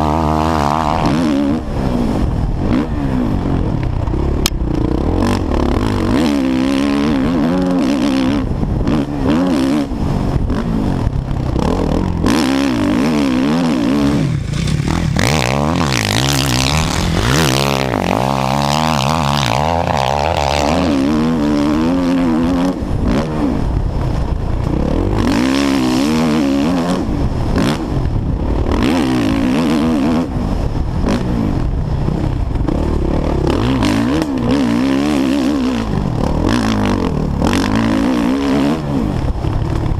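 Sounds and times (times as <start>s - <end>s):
motocross engine revving: 0.0s - 39.9s
wind noise on microphone: 0.0s - 39.9s.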